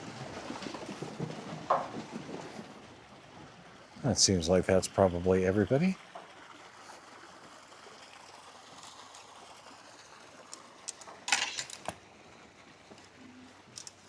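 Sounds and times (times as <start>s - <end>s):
faint steady hiss: 2.5s - 14.0s.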